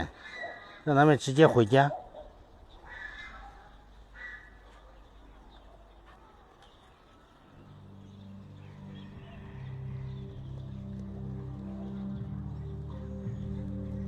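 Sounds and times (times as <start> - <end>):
bird calls: 0.0 - 14.0.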